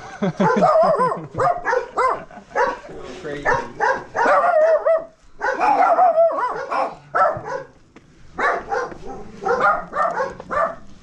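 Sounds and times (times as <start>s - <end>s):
dog barking and yelping: 0.4s - 7.8s, 8.4s - 10.9s.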